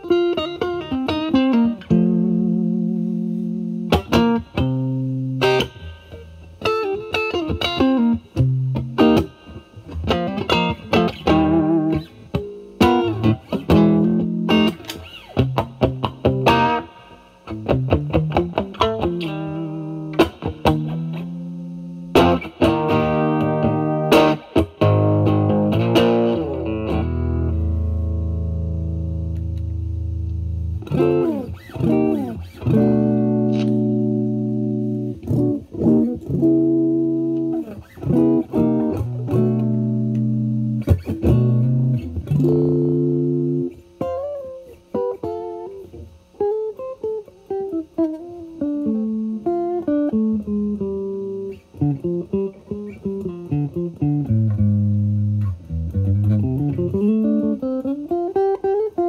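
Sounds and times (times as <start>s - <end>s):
overdriven electric guitar lead: 0.0s - 59.0s.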